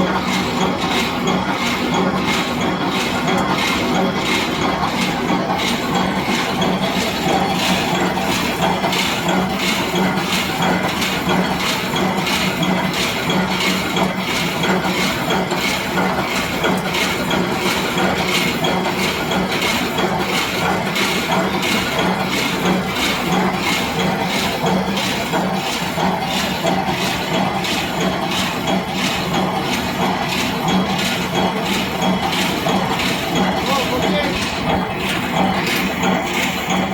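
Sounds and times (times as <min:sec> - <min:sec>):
machine hum: 0:00.0 - 0:36.9.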